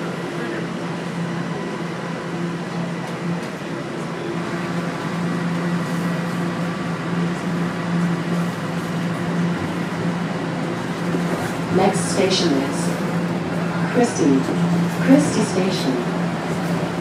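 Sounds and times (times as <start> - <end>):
subway car hum: 0.0 - 17.0.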